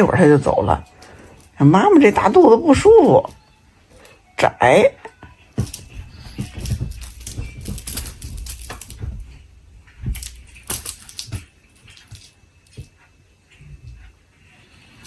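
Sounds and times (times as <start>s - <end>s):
rustling on bedding: 0.0s - 4.4s, 5.1s - 15.0s.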